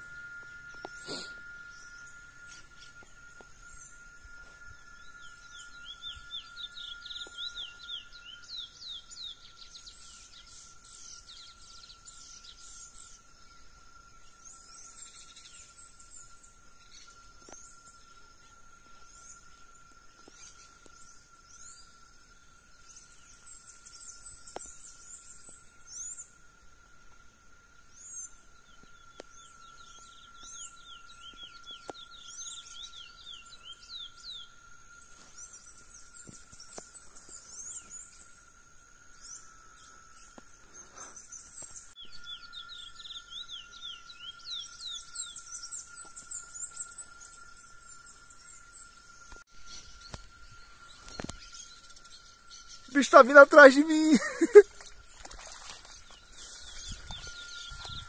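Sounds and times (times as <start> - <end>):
steady thin high tone: 0.0 - 28.7, 29.3 - 54.8, 56.0 - 58.0.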